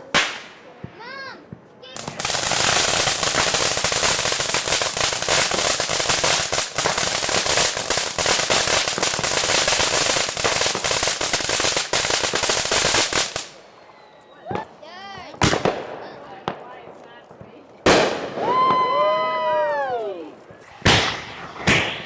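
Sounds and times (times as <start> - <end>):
firecrackers crackling: 0.0 - 1.2, 1.9 - 13.9, 14.5 - 22.0.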